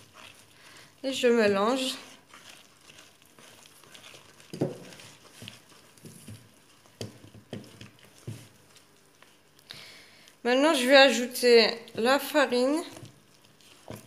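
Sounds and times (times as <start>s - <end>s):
hand kneading dough in bowl: 0.0s - 9.7s, 10.3s - 14.0s.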